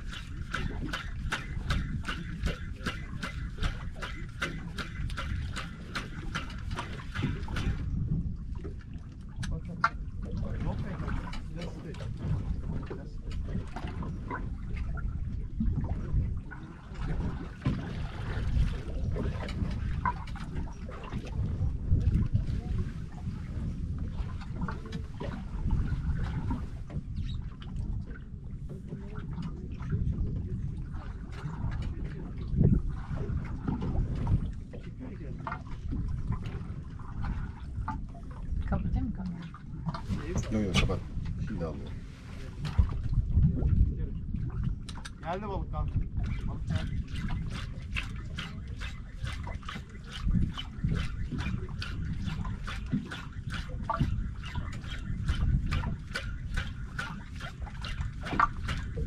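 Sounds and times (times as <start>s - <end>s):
water slapping against boat hull: 0.0s - 59.0s
wind buffeting microphone: 0.0s - 59.0s.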